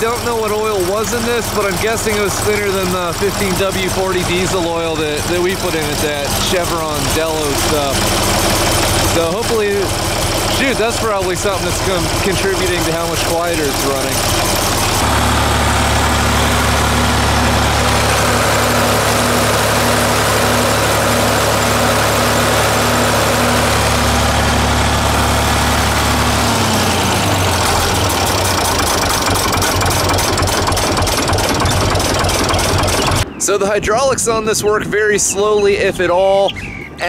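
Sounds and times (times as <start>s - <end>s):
tractor diesel engine idling: 0.0s - 33.4s.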